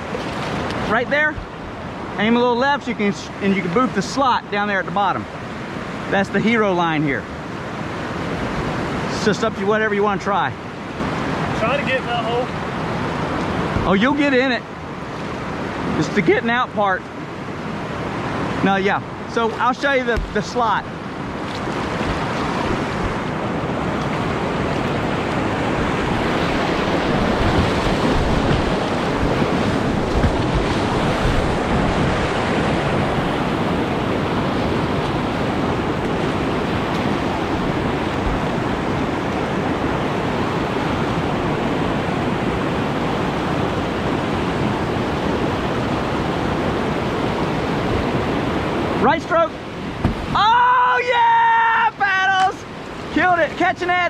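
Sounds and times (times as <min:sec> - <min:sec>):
whitewater rapid rushing: 0:00.0 - 0:54.0.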